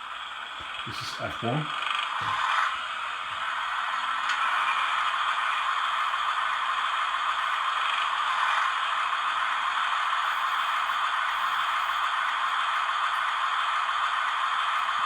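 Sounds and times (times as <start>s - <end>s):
diesel engine idling from small speaker: 0.0s - 15.0s.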